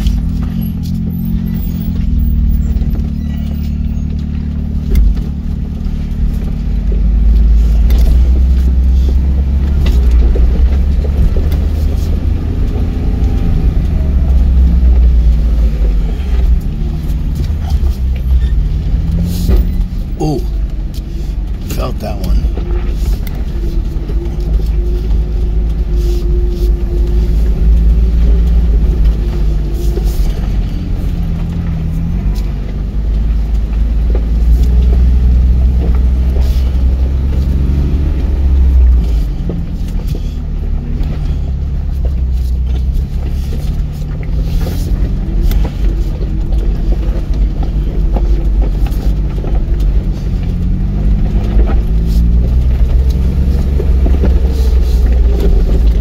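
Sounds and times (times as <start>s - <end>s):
engine running at low speed: 0.0s - 56.0s.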